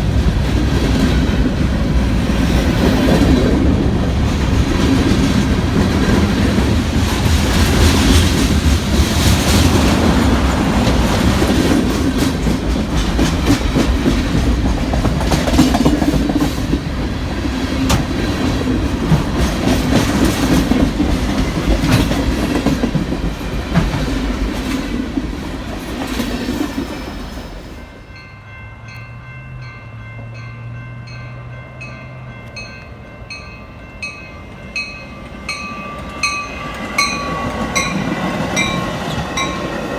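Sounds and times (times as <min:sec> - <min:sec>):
train cars rumbling and clacking: 0:00.0 - 0:39.9.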